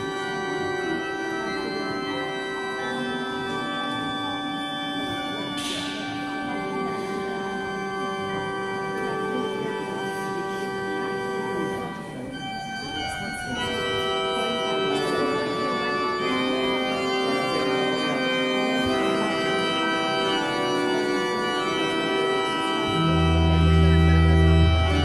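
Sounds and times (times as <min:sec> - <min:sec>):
organ playing held chords: 0:00.0 - 0:25.0.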